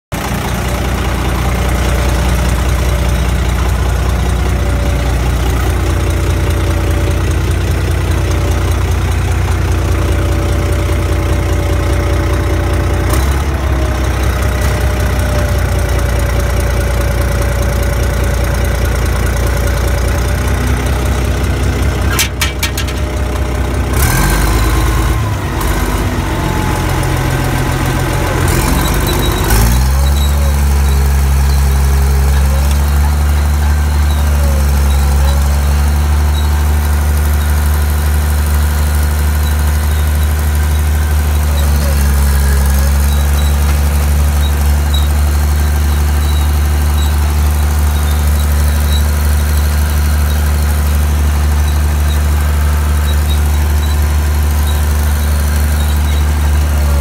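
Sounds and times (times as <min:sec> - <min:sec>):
diesel engine running loud: 0:00.1 - 0:57.0.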